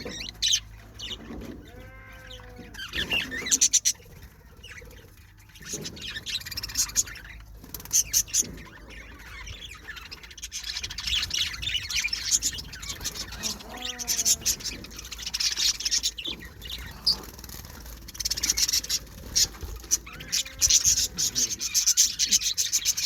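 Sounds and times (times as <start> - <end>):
budgerigars chirping and chattering: 0.0 - 23.0
loud sharp bird calls: 0.0 - 23.0.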